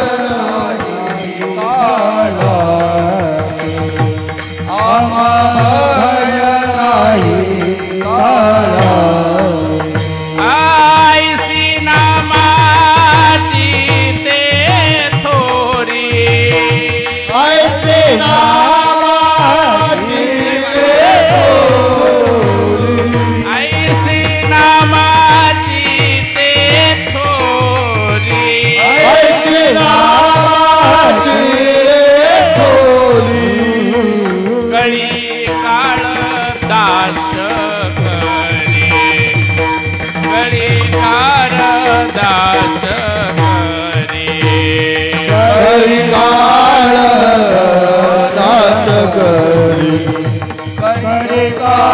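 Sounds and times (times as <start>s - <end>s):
harmonium-like held tones: 0.0s - 51.9s
person singing: 0.0s - 51.9s.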